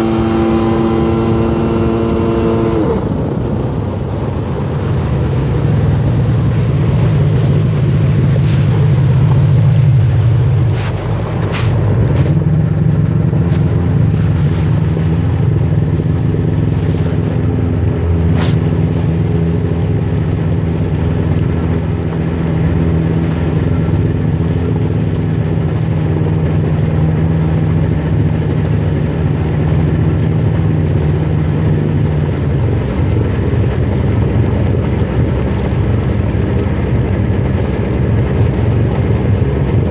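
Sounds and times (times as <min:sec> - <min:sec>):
watercraft engine droning: 0:00.0 - 0:39.9.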